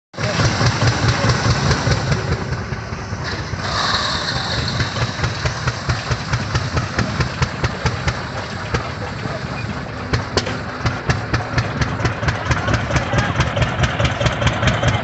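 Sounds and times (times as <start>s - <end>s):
tractor engine running under load: 0.2s - 15.0s.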